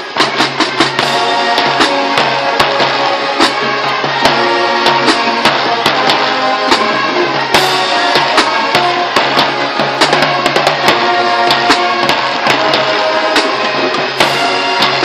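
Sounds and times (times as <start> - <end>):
cymbal crash: 0.0 - 15.0
marching band playing: 0.0 - 15.0.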